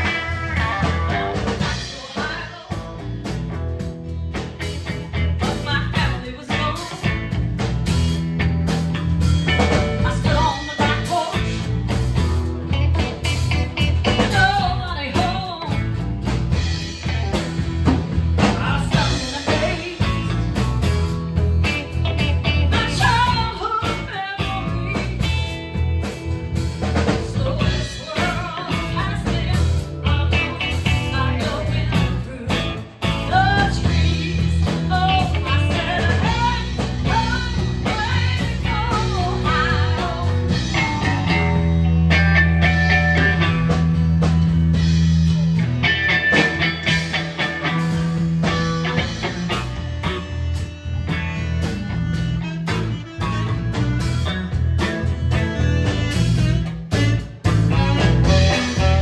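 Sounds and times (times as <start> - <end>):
blues rock band playing: 0.0 - 59.0.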